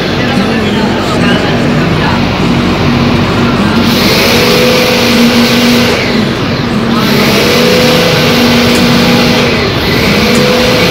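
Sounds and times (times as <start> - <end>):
fan air rushing: 0.0 - 10.9
motor hum: 0.0 - 10.9.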